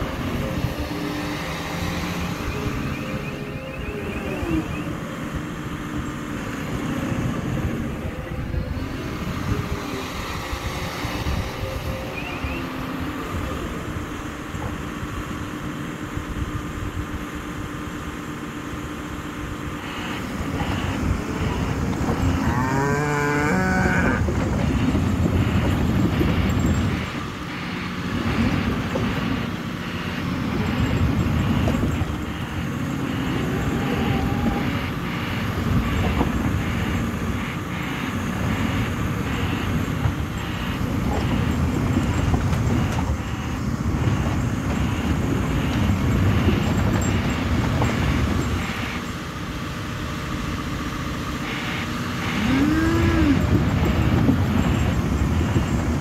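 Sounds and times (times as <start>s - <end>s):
wavering squeal: 0.0s - 16.1s, 18.2s - 49.1s, 51.4s - 56.0s
excavator diesel engine running: 0.0s - 56.0s.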